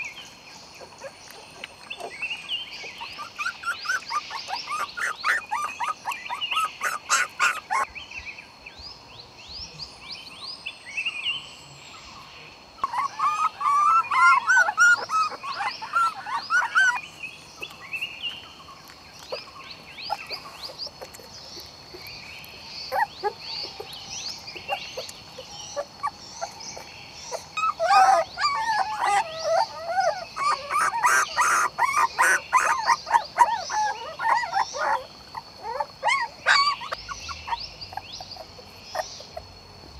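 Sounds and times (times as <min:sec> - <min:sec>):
puppies whimpering and yelping: 0:00.8 - 0:07.9, 0:12.8 - 0:18.0, 0:19.2 - 0:22.1, 0:22.9 - 0:39.9.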